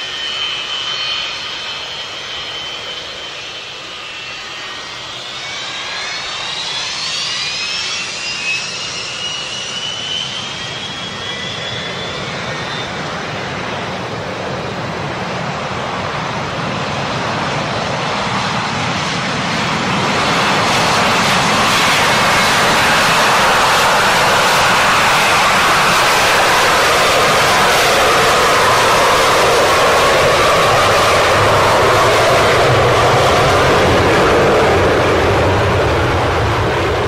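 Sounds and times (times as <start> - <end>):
jet engine roar: 0.0 - 37.0
jet engine whine rising: 0.0 - 37.0.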